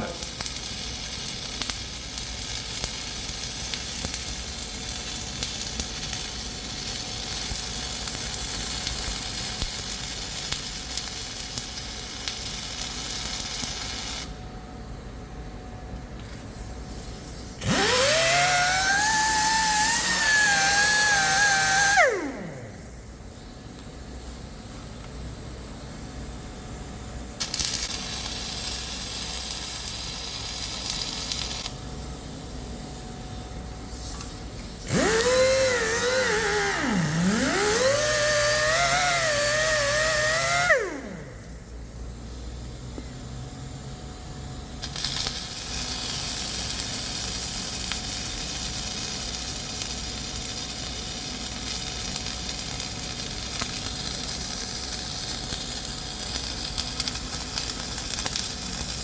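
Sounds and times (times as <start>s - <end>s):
welding arc sizzling: 0.0s - 14.4s, 16.4s - 42.9s, 44.5s - 59.0s.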